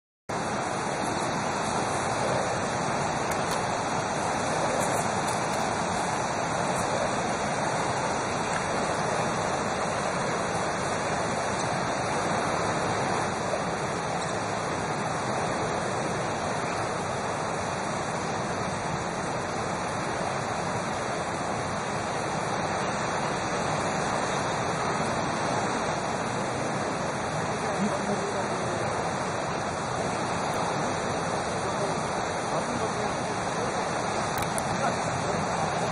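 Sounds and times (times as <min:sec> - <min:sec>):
river rapids roaring: 0:00.3 - 0:35.9.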